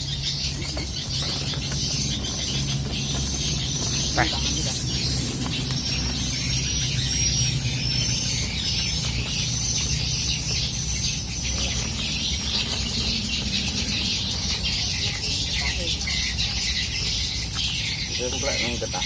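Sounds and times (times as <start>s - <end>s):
birds chirping: 0.0s - 19.0s
low outdoor rumble: 0.0s - 19.0s.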